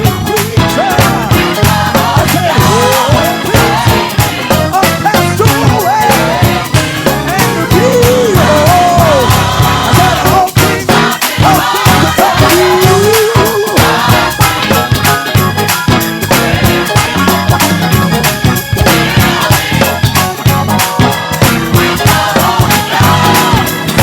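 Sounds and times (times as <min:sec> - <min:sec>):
gospel band playing: 0:00.0 - 0:24.0
sliding lead melody: 0:00.0 - 0:24.0.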